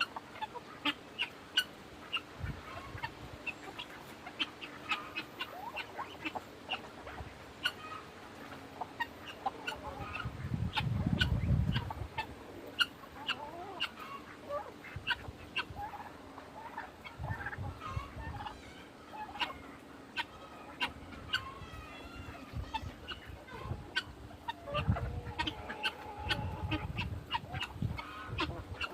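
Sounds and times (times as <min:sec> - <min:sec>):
chickens and turkeys clucking: 0:00.0 - 0:28.9.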